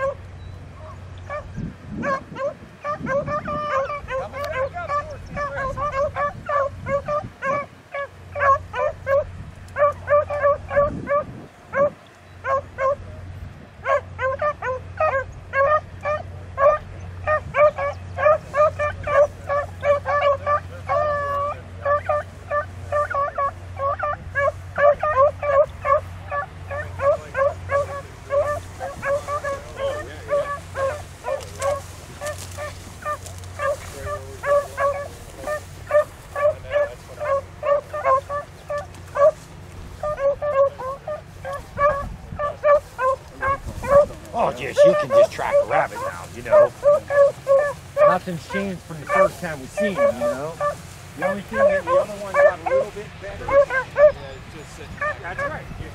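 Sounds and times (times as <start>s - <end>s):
beagles baying: 0.0s - 55.9s.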